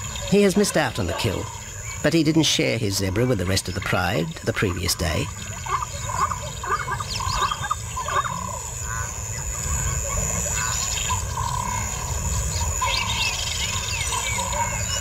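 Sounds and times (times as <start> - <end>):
high insect whine: 0.0 - 15.0
bird chirps: 2.9 - 15.0.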